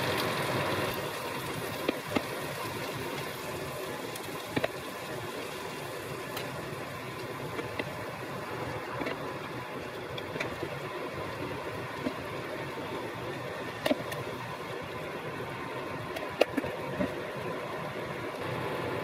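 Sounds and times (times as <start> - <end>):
chicken sizzling in a frying pan: 0.0 - 19.0.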